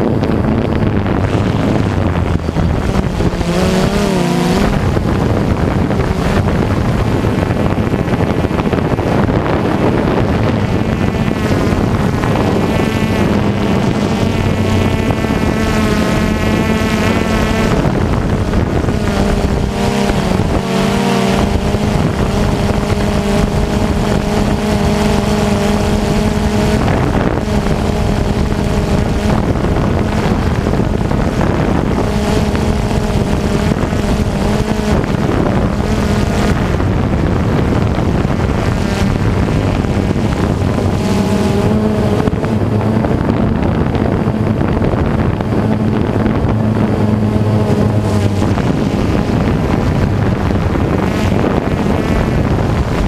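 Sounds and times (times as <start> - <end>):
drone motors humming: 0.0 - 53.0
wind buffeting microphone: 0.0 - 53.0.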